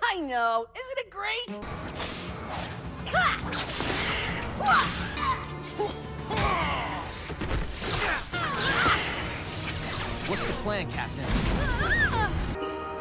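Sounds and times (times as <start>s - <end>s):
dramatic background music: 1.4s - 13.0s.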